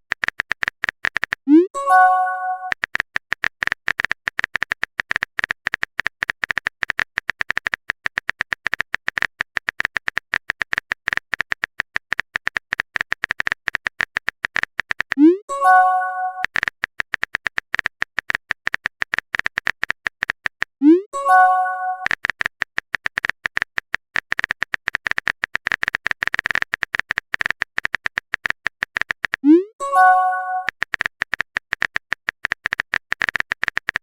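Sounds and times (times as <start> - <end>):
phone keyboard typing clicks: 0.1 - 34.0.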